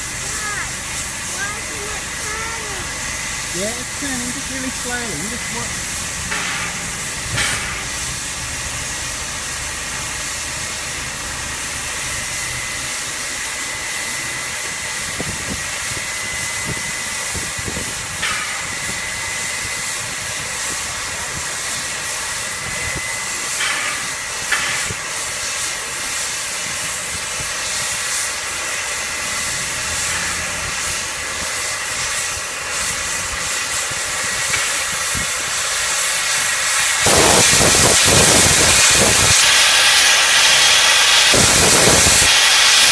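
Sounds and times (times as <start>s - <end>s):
steam locomotive hissing: 0.0s - 42.9s.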